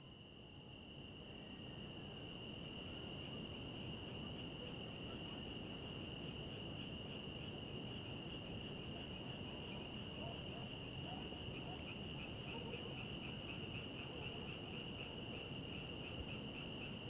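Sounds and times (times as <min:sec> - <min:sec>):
faint high insect chirp: 0:00.0 - 0:17.0
cricket trilling: 0:01.0 - 0:17.0.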